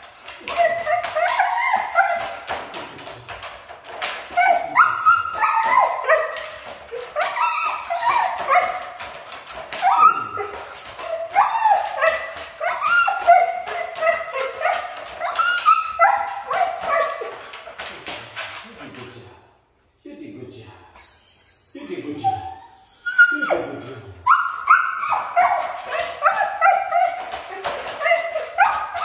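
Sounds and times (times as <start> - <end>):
dog whining and yipping: 0.3 - 2.6, 4.2 - 17.5, 21.0 - 29.0.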